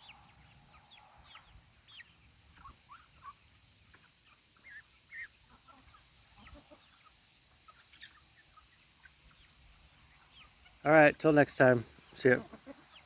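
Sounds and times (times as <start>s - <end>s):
chickens calling softly: 0.0s - 13.0s.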